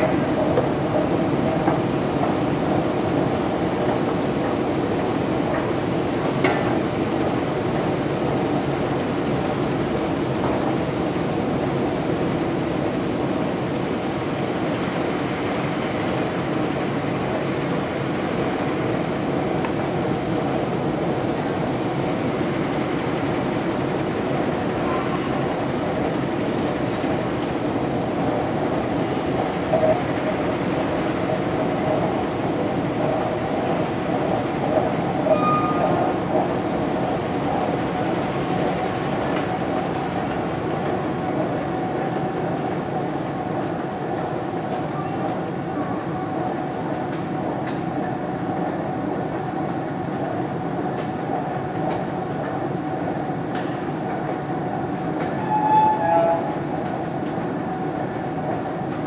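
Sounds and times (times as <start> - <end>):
metro train rumbling: 0.0 - 59.0.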